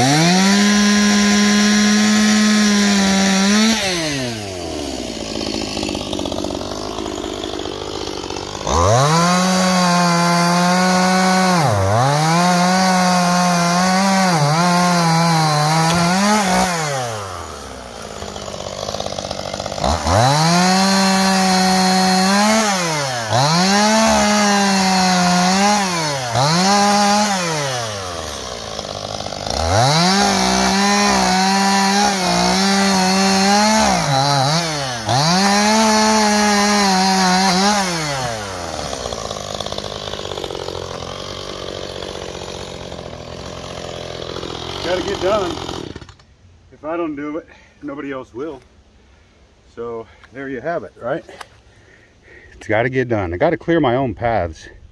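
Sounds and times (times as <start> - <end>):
chainsaw cutting wood: 0.0 - 46.4.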